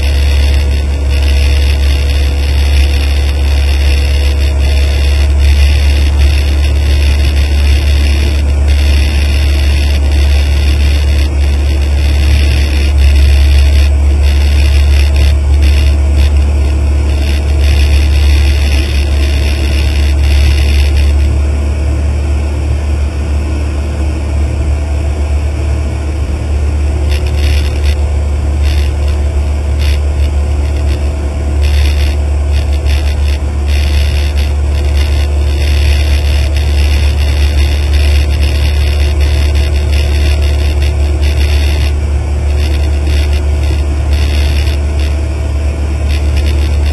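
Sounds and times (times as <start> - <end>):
light aircraft engine droning: 0.0 - 46.9.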